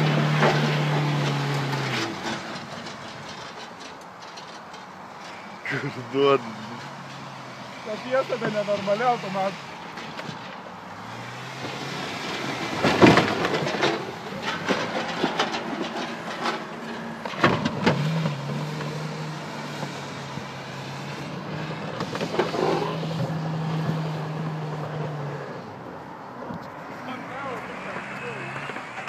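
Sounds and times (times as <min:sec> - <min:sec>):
car clunking and banging: 0:00.0 - 0:29.0.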